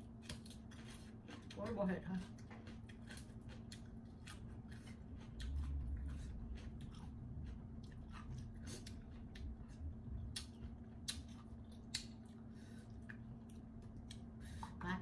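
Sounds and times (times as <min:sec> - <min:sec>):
crunchy chewing: 0:00.0 - 0:14.6.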